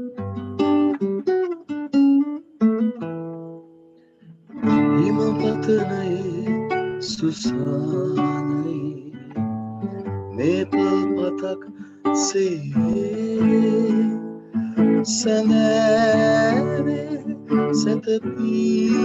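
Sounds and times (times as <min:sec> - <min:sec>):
classical guitar playing: 0:00.0 - 0:19.0.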